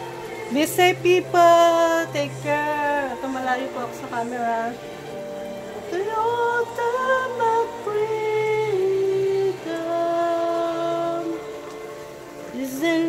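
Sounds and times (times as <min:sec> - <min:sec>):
low held accompaniment: 0:00.0 - 0:13.0.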